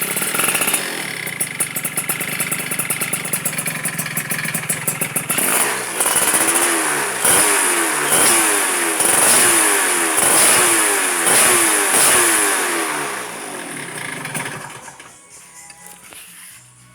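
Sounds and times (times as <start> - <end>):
two-stroke engine revving: 0.0 - 15.2.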